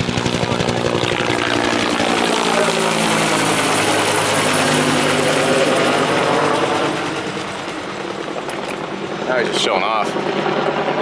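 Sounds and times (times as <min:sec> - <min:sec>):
helicopter flying past: 0:00.0 - 0:11.0.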